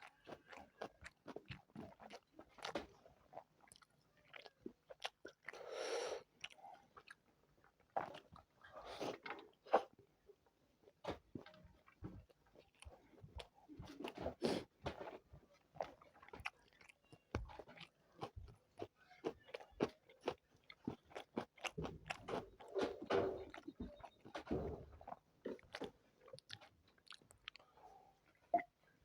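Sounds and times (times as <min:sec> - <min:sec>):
person chewing and crunching food: 0:00.0 - 0:10.0, 0:10.8 - 0:28.7.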